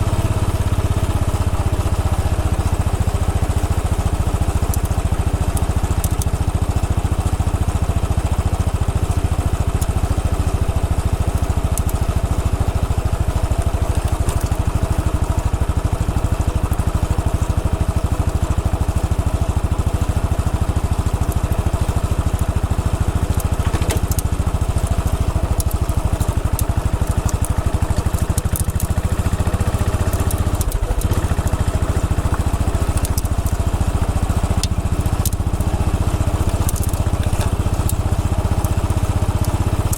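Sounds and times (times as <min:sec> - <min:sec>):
motorcycle engine running: 0:00.0 - 0:39.9
tyres crunching on rough road: 0:00.0 - 0:39.9.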